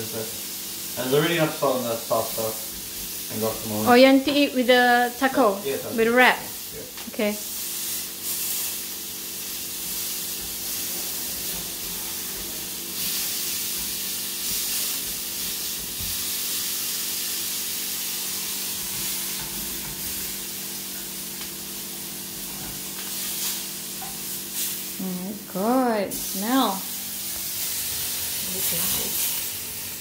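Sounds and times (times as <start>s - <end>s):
steak sizzling in frying pan: 0.0s - 30.0s.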